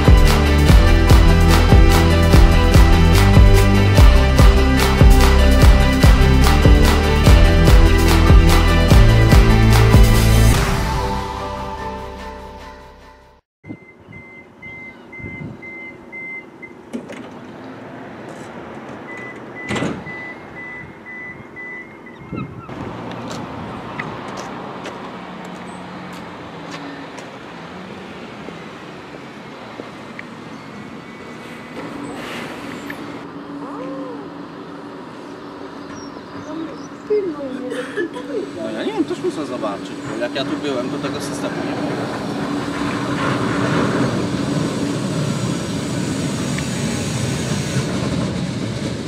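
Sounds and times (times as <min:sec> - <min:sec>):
tram rumbling: 0:00.0 - 0:13.2, 0:16.8 - 0:49.0
bus engine running: 0:00.0 - 0:49.0
street traffic noise: 0:00.0 - 0:49.0.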